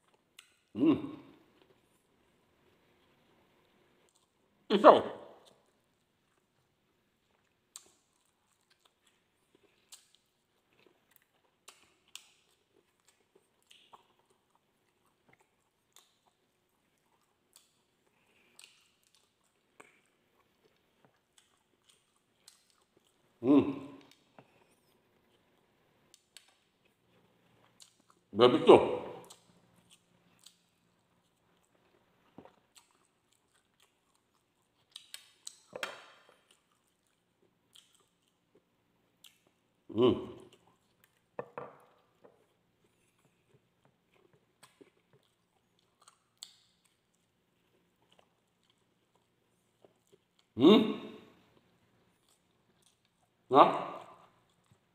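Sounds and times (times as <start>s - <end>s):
person chewing food: 0.0s - 4.6s, 5.3s - 28.3s, 28.9s - 54.9s.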